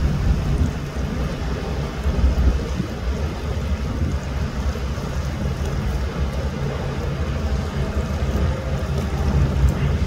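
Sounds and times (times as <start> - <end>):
boat engines rumbling: 0.0 - 10.0.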